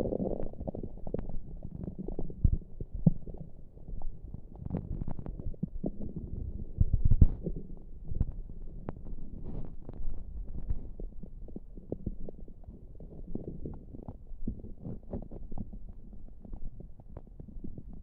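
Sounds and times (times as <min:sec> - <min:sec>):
stomach gurgling: 0:00.0 - 0:18.0.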